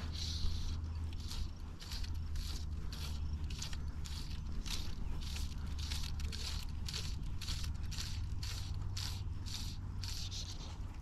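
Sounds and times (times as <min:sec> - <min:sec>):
fishing line hissing scrape: 0:00.0 - 0:10.8
steady low rumble: 0:00.0 - 0:11.0.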